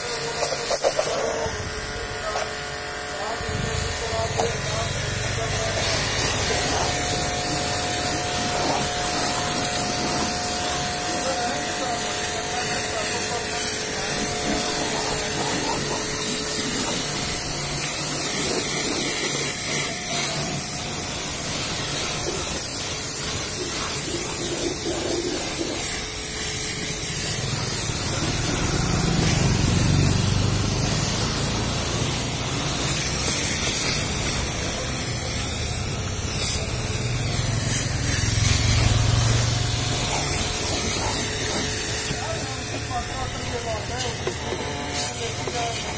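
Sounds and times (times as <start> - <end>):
pressure washer spraying water: 0.0 - 45.9.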